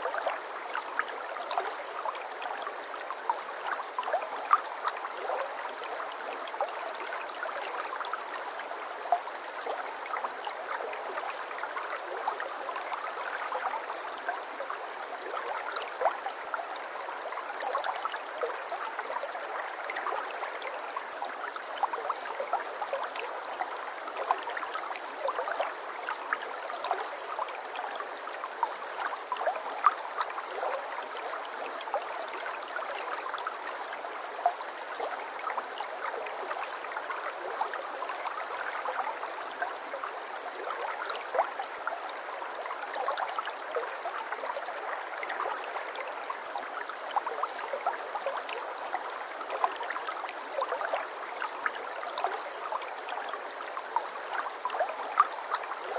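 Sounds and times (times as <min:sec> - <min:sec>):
babbling brook: 0:00.0 - 0:55.9.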